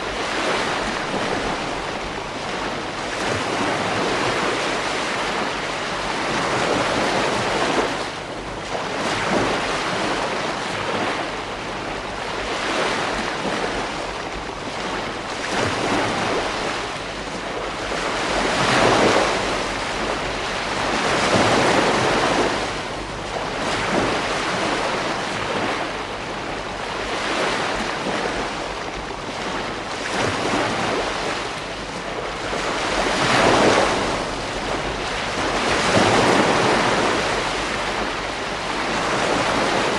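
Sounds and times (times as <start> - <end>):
waves breaking on beach: 0.0 - 39.9
wind noise on microphone: 0.0 - 39.9.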